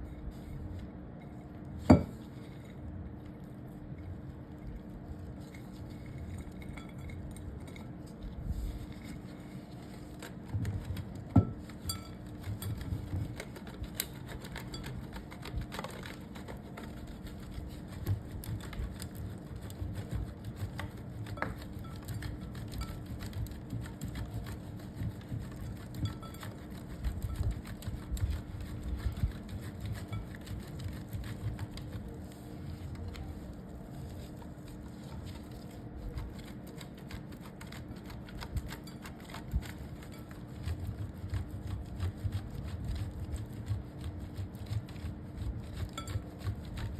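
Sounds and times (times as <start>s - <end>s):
blade scraping soap: 8.8s - 46.9s.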